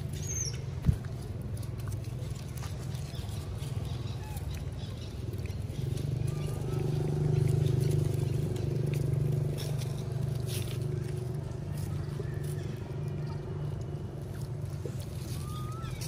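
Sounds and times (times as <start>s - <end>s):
dry leaves crackling: 0.0s - 16.0s
engine humming: 0.0s - 16.0s.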